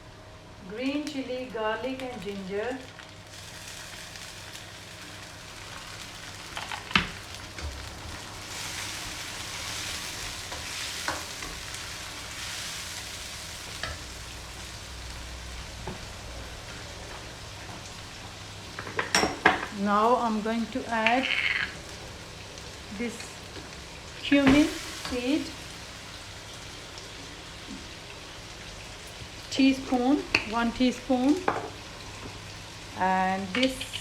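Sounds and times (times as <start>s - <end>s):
vegetables sizzling in hot oil: 0.5s - 34.0s.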